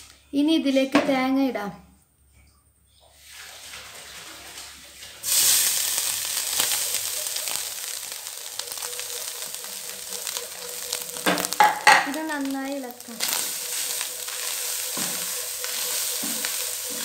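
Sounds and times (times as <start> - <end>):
coconut sizzling in ghee: 3.2 - 17.0.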